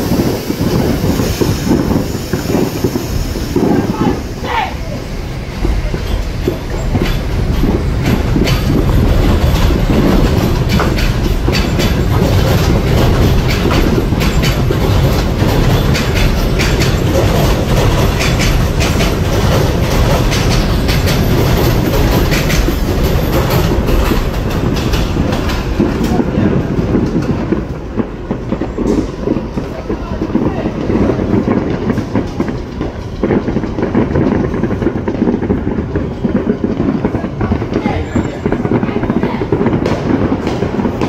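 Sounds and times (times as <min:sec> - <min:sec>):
train rumbling: 0:00.0 - 0:41.0
wheels clattering over rail joints: 0:00.0 - 0:41.0.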